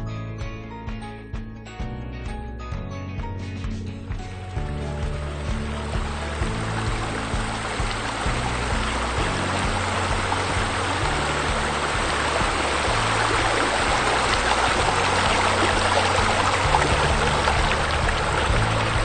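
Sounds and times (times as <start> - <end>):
low sustained bass music: 0.0 - 19.0.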